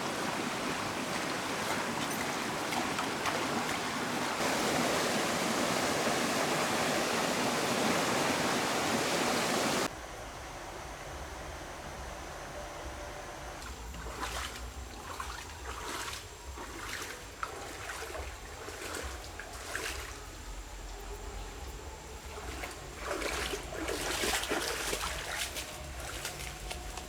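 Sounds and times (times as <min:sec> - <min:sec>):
water splashing and sloshing: 0:00.0 - 0:09.9, 0:13.6 - 0:27.0.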